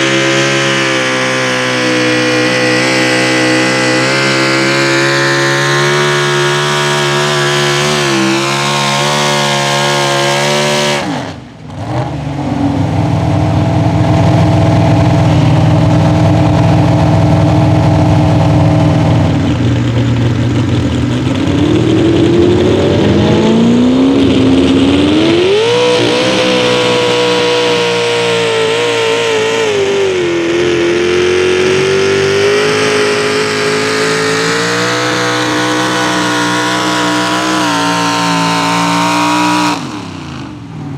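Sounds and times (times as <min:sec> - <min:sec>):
truck engines at high revs: 0:00.0 - 0:40.9.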